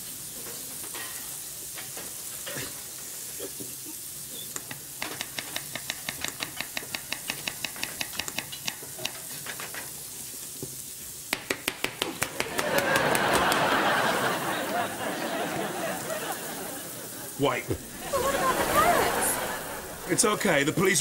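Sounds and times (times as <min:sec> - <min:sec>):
food sizzling in frying: 0:00.0 - 0:21.0.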